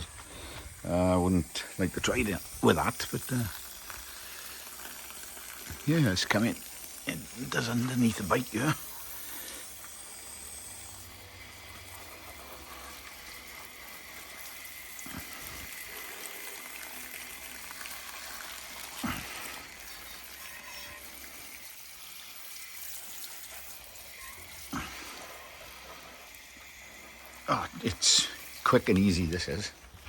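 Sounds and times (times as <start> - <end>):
hose water spraying: 0.0 - 30.0.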